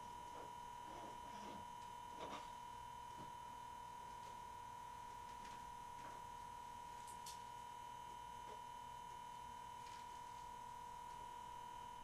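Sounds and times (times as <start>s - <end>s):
steady high-pitched tone: 0.0s - 12.0s.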